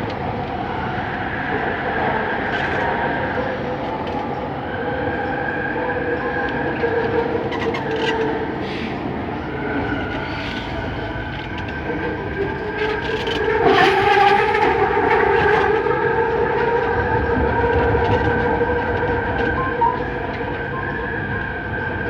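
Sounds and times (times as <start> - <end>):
metro train motor hum: 0.0 - 22.0
train rolling rumble: 0.0 - 22.0.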